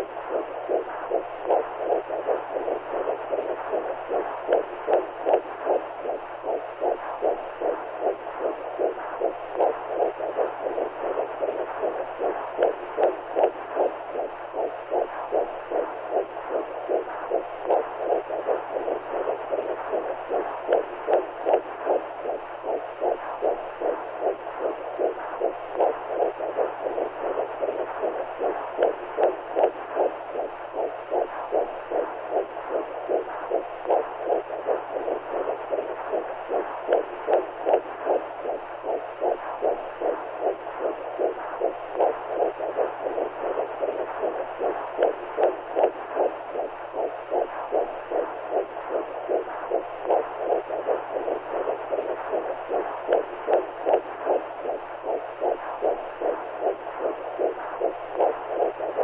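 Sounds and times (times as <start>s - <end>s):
heartbeat whooshing pulses: 0.0s - 59.0s
steady low hum: 0.0s - 59.0s.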